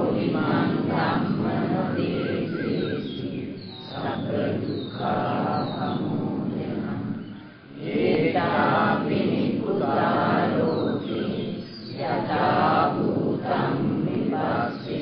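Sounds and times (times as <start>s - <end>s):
devotional chanting: 0.0s - 15.0s.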